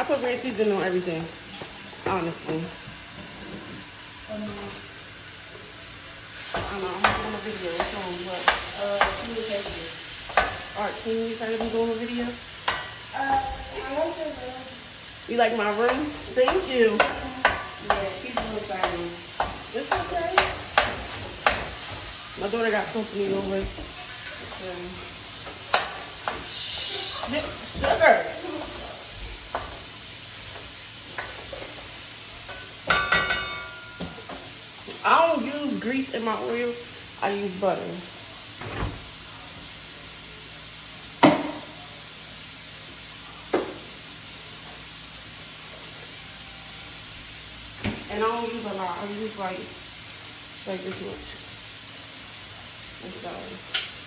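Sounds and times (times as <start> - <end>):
meat sizzling in a skillet: 0.0 - 54.0.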